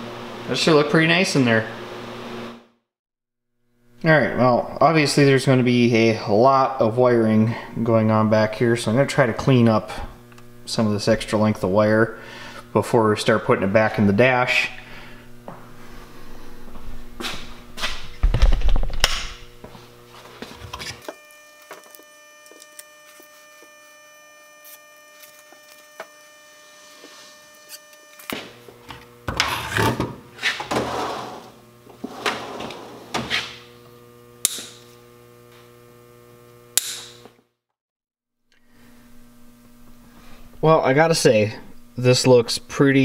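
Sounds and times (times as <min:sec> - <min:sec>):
steady electrical hum: 0:03.7 - 0:37.4, 0:38.5 - 0:43.0.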